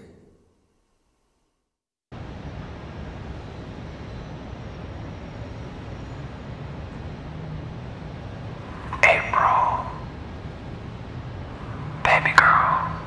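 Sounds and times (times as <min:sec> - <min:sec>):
low rumble of traffic: 0:02.1 - 0:13.0.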